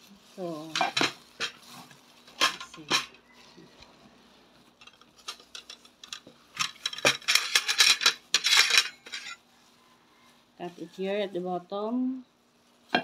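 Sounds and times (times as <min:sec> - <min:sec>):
plastic gloves crinkling: 0:00.0 - 0:13.0.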